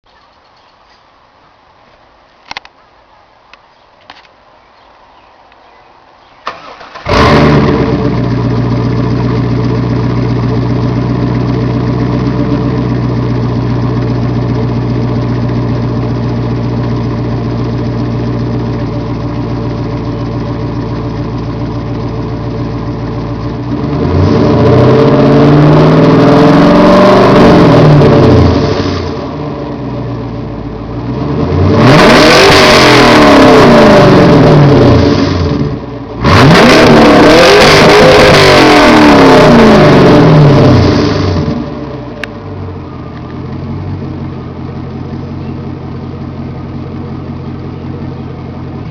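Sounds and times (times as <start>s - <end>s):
car engine idling and revving: 6.2s - 48.9s.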